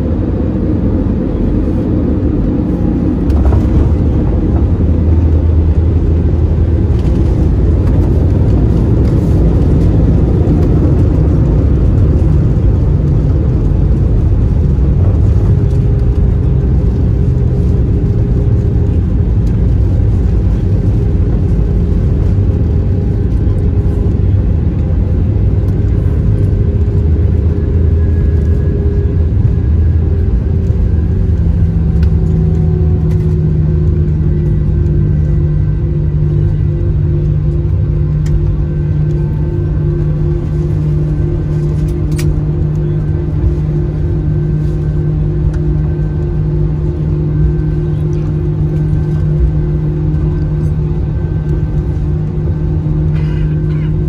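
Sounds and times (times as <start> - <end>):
jet engines reverse thrust roar: 0.0 - 54.0.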